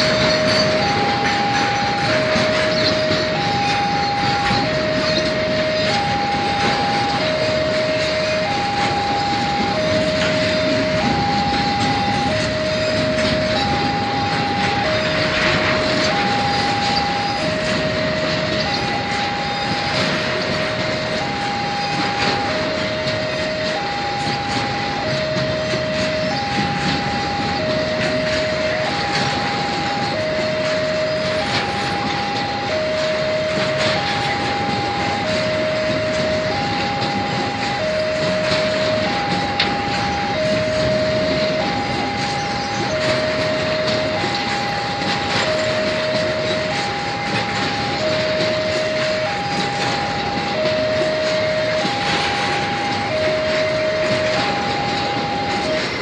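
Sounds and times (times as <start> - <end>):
freight train rolling past: 0.0 - 56.0
level crossing alarm two notes: 0.0 - 56.0.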